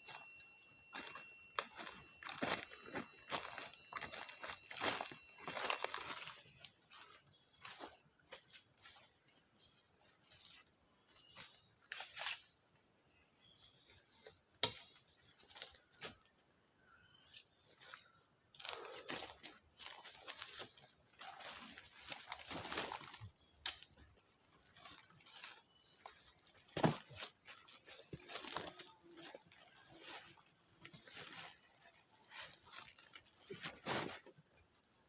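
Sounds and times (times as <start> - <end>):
insects buzzing: 0.0 - 35.0
layered insect tone: 0.0 - 35.0.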